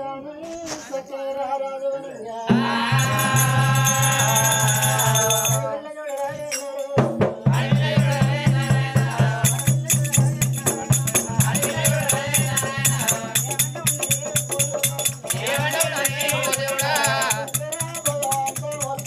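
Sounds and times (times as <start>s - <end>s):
person singing: 2.2s - 19.0s
steady drum beat: 2.5s - 5.7s, 6.4s - 19.0s
jingling bells: 2.7s - 19.0s.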